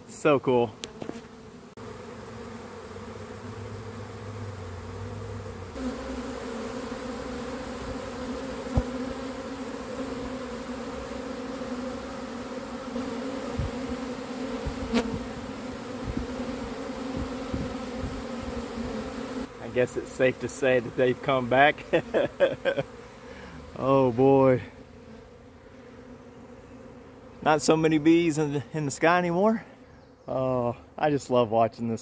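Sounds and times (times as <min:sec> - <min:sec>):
honey bees buzzing: 0:00.0 - 0:32.0.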